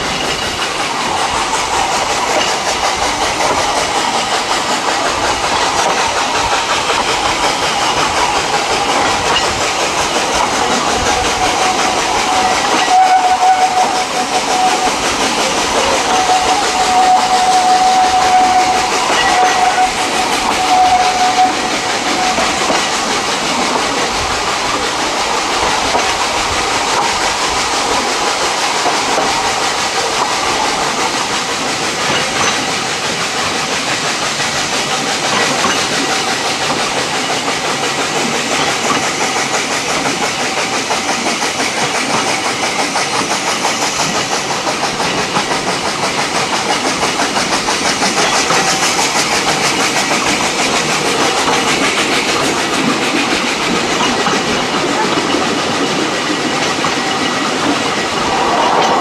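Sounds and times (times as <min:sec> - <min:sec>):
steam hiss: 0:00.0 - 0:59.0
train carriages clattering on track: 0:00.0 - 0:59.0.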